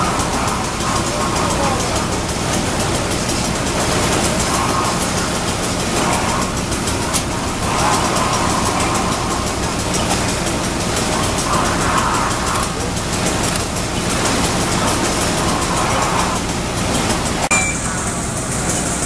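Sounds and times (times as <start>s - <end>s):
fire engine droning: 0.0s - 19.0s
water pumping hiss: 0.0s - 19.0s.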